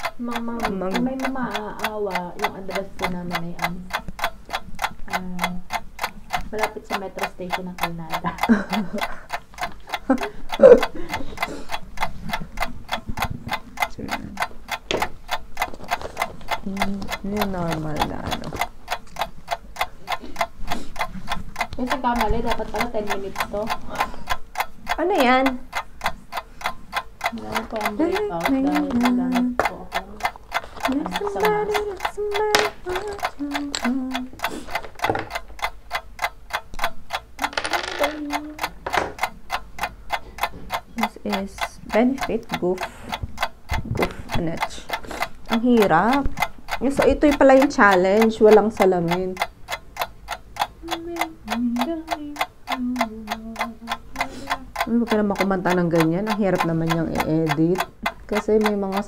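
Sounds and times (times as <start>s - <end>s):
timer ticking: 0.0s - 59.0s.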